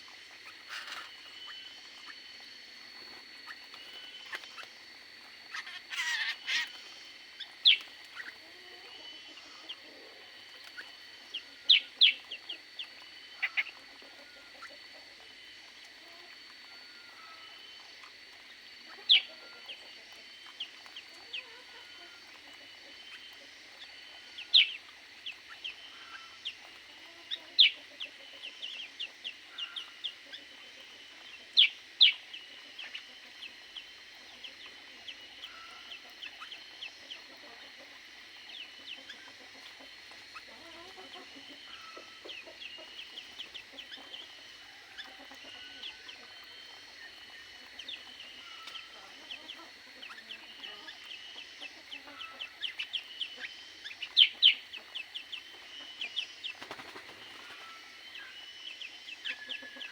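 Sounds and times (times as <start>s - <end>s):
flock of birds chirping: 0.0s - 59.9s
loud bird calls: 0.0s - 59.9s.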